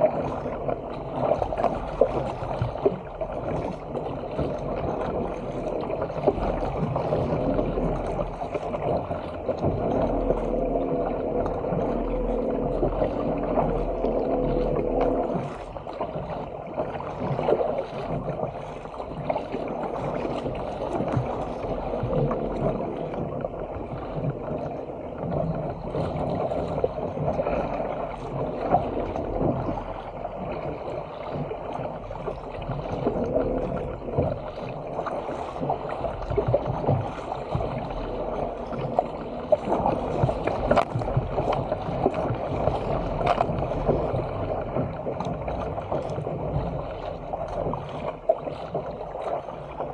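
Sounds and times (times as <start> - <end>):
paddle blades splashing: 0.0 - 49.9
water splashing around hull: 0.0 - 49.9.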